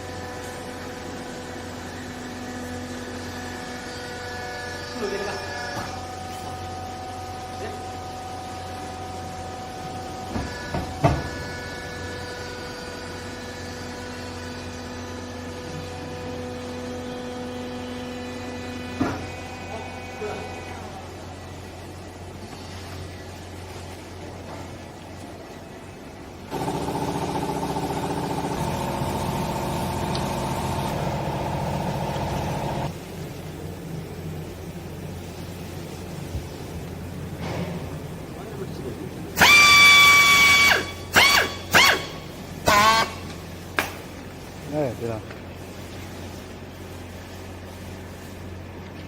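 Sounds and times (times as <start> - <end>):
hydraulic baler humming: 0.0 - 22.6, 25.8 - 45.8.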